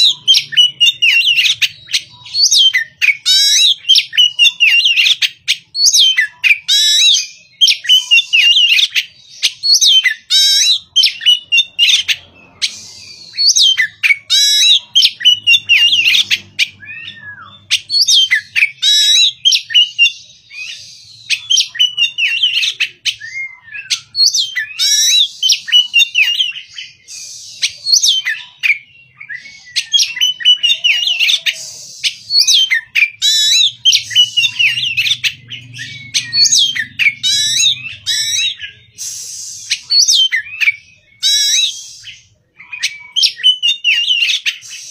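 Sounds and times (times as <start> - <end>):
bird singing whistles and chirps: 0.0 - 44.9.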